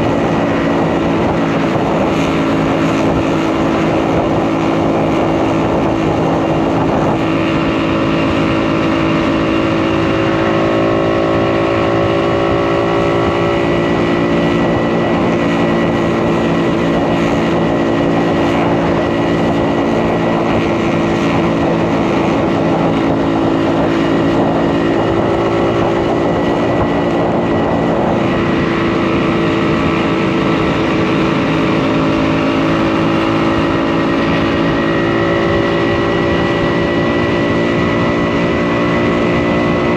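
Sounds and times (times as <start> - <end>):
motorcycle two-stroke engine running: 0.0 - 39.9.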